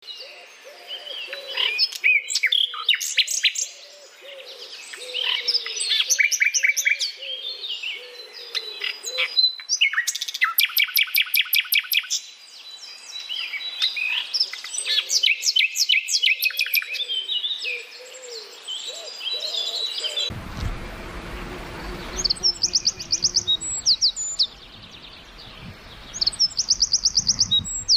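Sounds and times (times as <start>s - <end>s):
songbirds chirping and singing: 0.0s - 20.4s, 21.1s - 27.9s.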